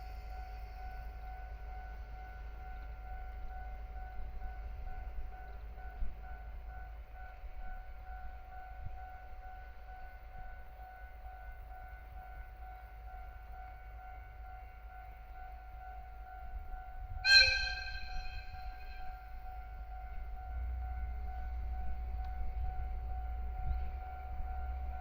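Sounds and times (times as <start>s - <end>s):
level-crossing alarm ringing: 0.0s - 25.0s.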